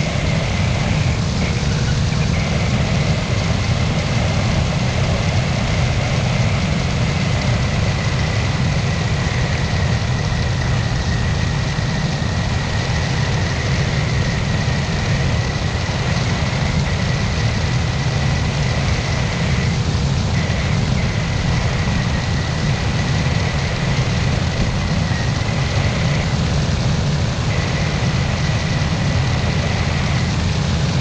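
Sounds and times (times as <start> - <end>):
aircraft engine and propeller drone: 0.0 - 31.0
wind rushing over microphone: 0.0 - 31.0.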